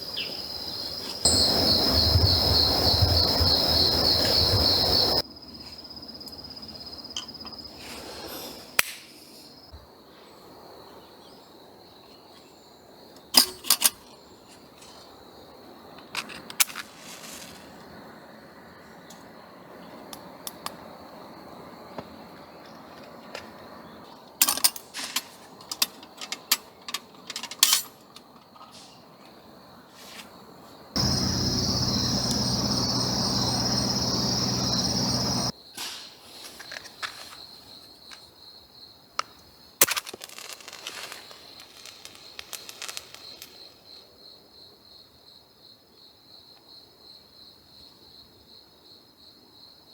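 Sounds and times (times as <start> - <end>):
insects chirring: 0.0 - 49.9.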